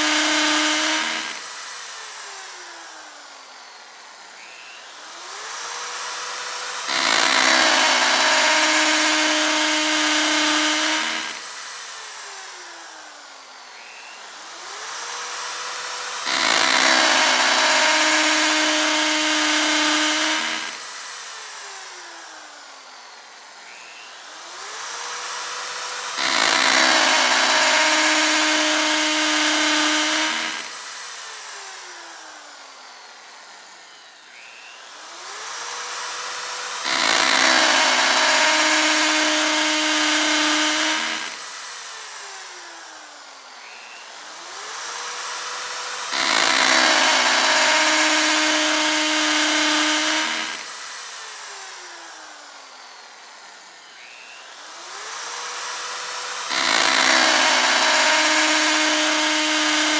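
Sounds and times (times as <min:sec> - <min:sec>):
electric drill whining: 0:00.0 - 0:59.9.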